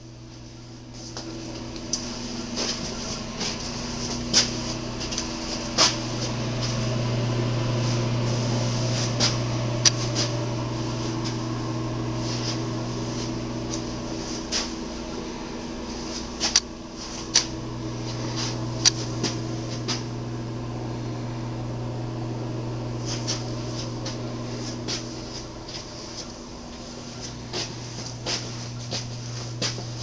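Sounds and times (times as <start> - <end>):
low ventilation hum: 0.0 - 30.0.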